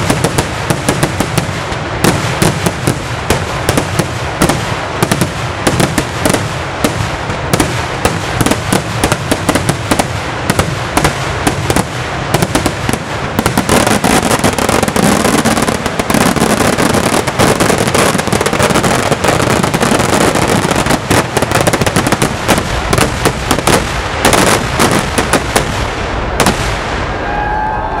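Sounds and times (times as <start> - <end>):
firecracker bangs: 0.0 - 27.7.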